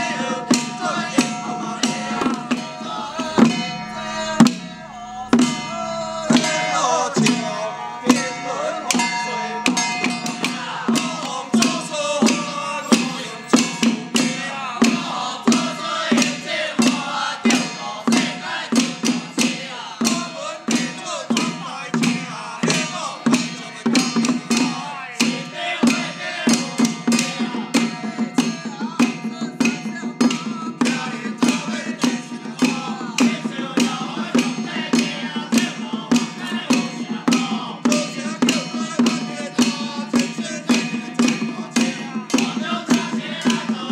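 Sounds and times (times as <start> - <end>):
hand drums beaten with sticks: 0.0 - 43.9
men chanting in unison: 0.0 - 43.9.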